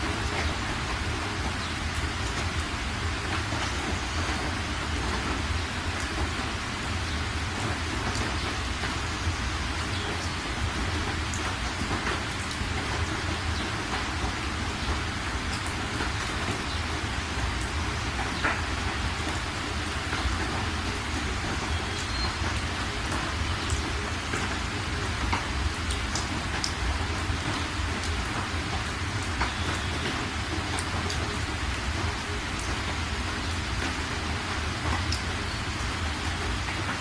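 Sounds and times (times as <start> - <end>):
rain hissing: 0.0 - 37.0
raindrops ticking: 0.0 - 37.0.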